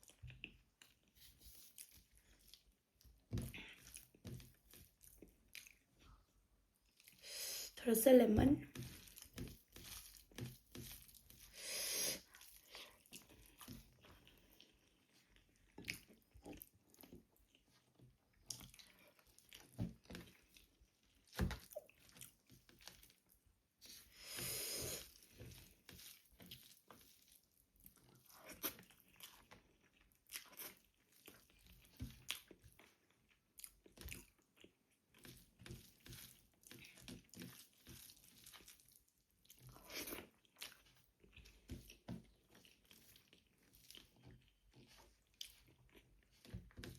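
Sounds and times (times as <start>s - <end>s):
person chewing crunchy food: 0.0s - 7.3s, 8.7s - 46.9s.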